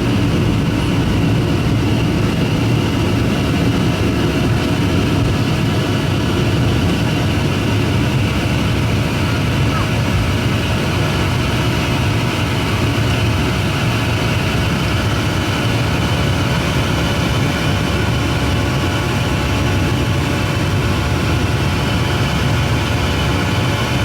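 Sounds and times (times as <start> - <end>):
airliner engine hum: 0.0 - 24.0.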